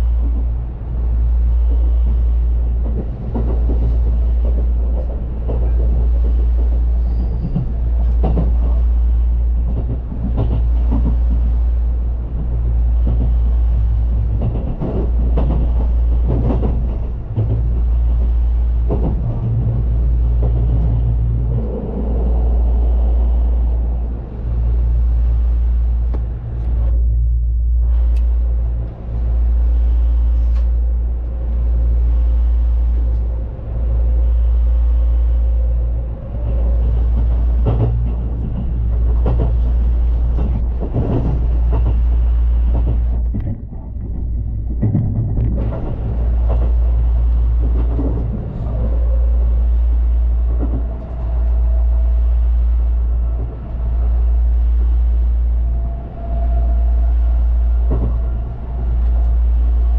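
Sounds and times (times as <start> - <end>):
train clattering: 0.0 - 59.9
train rumbling: 0.0 - 59.9.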